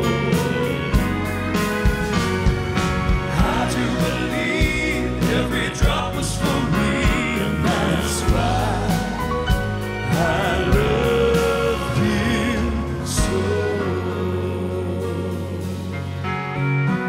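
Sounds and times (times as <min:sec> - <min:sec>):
male vocal quartet singing: 0:00.0 - 0:01.1, 0:02.7 - 0:16.4
live band playing: 0:00.0 - 0:17.0.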